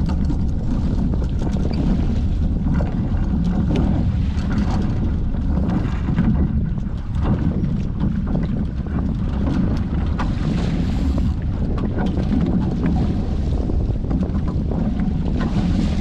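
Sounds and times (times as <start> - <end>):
water slapping against hulls: 0.0 - 16.0
wind buffeting microphone: 0.0 - 16.0.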